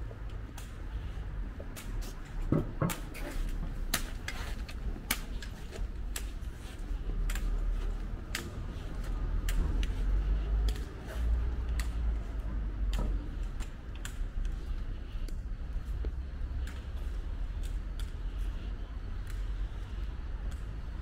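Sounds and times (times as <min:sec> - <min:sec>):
footsteps clicking: 0:00.0 - 0:21.0.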